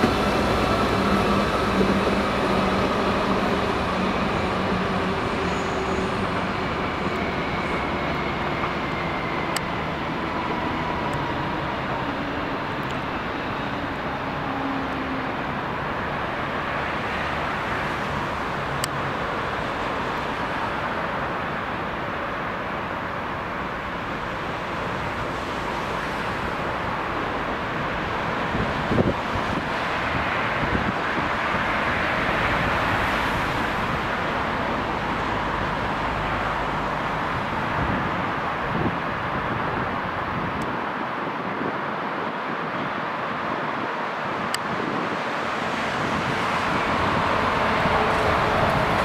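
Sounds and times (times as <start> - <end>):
railcar rushing on tracks: 0.0 - 49.0.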